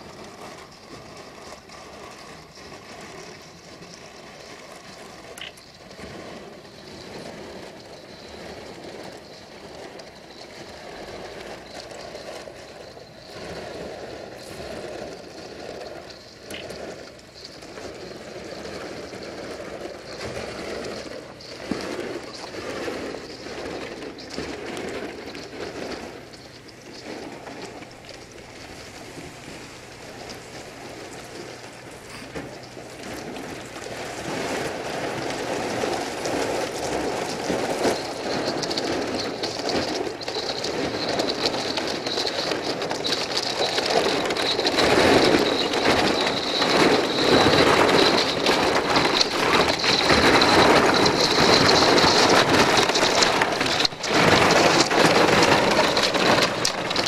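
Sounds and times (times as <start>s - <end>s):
thin high whine: 0.0s - 57.0s
ice crunching against boat hull: 4.6s - 57.0s.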